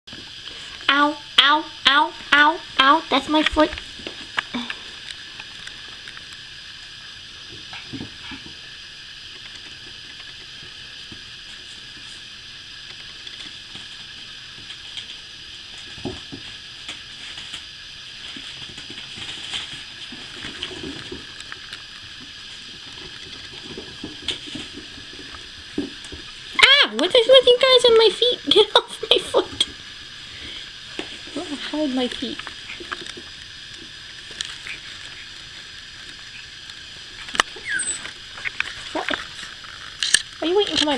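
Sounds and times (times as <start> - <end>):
steady hiss: 0.1 - 40.9
puppies scuffling and rustling: 3.2 - 30.1, 30.9 - 40.9.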